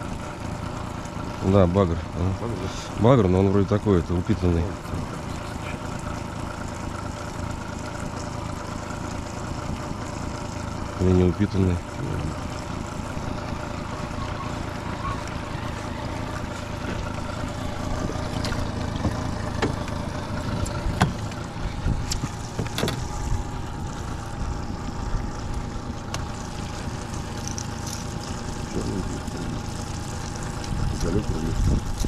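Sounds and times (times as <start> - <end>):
outboard motor humming: 0.0 - 32.0.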